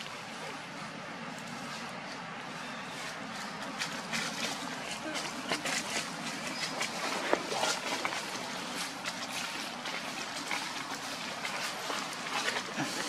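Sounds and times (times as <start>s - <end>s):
rustle of dry leaf litter: 0.0s - 13.0s
steady outdoor hiss: 0.0s - 13.0s.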